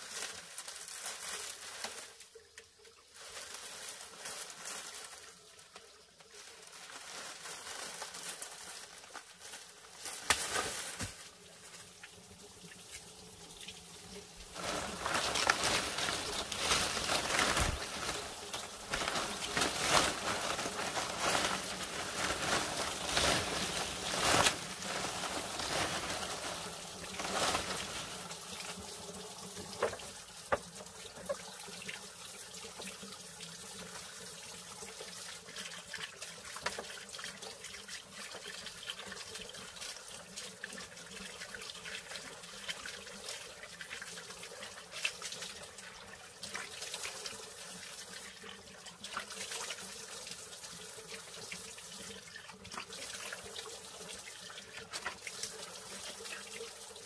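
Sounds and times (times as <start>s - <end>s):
water running and splashing: 0.0s - 57.0s.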